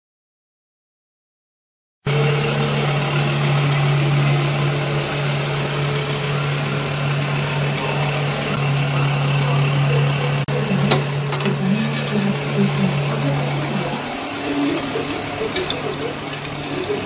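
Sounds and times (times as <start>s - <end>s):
machine humming: 2.1s - 17.0s.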